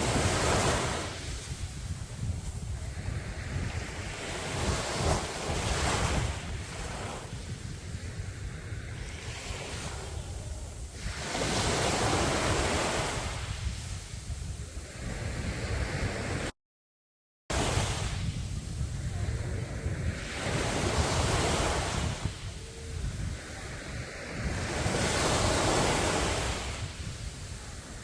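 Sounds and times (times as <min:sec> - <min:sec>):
sea waves breaking on a beach: 0:00.0 - 0:16.5, 0:17.5 - 0:28.0
wind rumbling on microphone: 0:00.0 - 0:16.5, 0:17.5 - 0:28.0.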